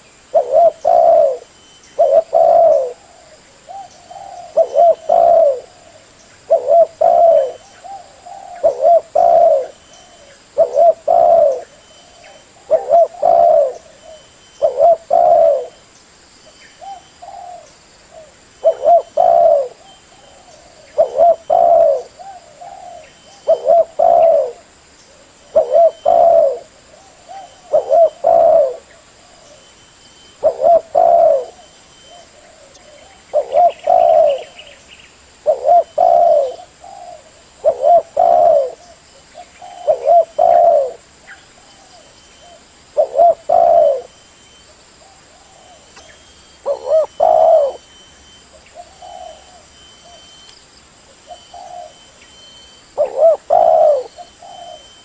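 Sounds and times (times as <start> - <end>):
dove cooing: 0.0 - 15.8, 16.8 - 34.8, 35.4 - 44.2, 45.0 - 50.4, 51.1 - 55.0.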